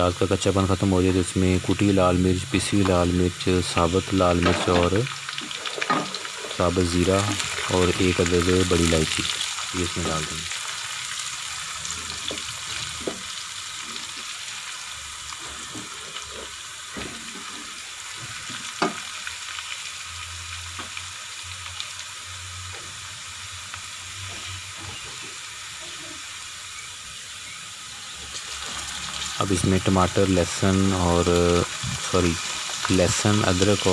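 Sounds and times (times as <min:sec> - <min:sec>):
onions sizzling in hot oil: 0:00.0 - 0:33.9.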